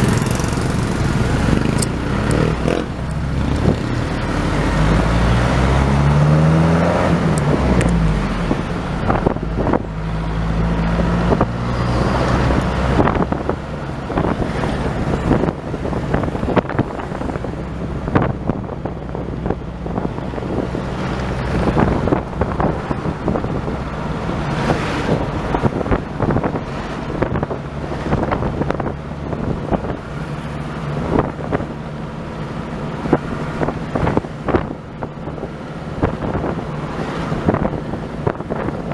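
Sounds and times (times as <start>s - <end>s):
road noise: 0.0s - 38.9s
vehicle engine running: 0.0s - 38.9s
wind buffeting microphone: 0.0s - 38.9s.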